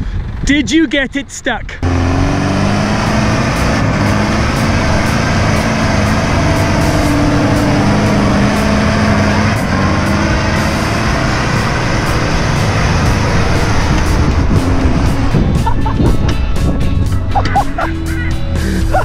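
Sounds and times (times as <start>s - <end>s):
truck engine under load: 0.0s - 0.5s, 1.7s - 19.0s.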